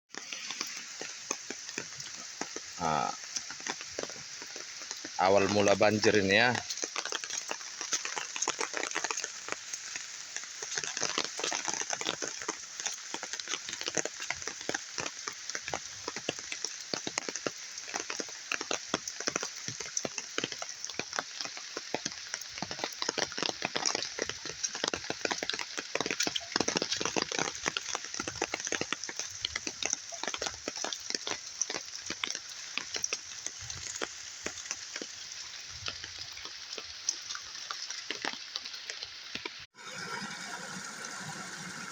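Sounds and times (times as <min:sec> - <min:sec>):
floodwater flowing: 0:00.1 - 0:41.9.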